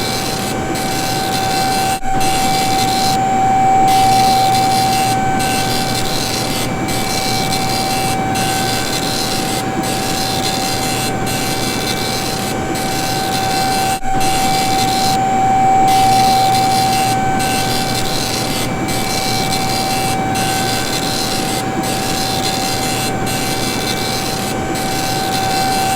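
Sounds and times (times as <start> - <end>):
steady hydraulic whine: 0.0 - 25.9.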